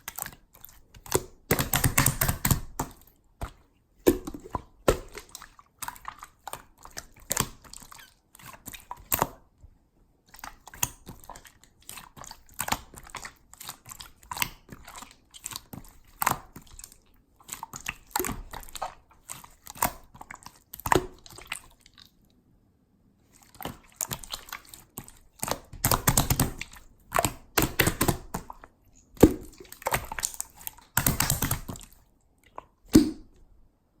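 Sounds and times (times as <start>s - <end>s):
slime squished by hand: 0.0s - 9.5s, 10.3s - 22.2s, 23.3s - 33.5s.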